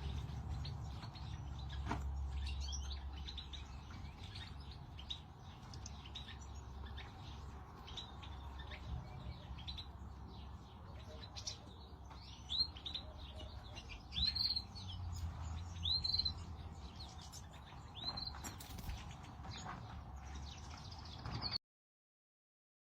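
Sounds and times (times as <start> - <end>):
finches chirping and twittering: 0.0 - 21.6.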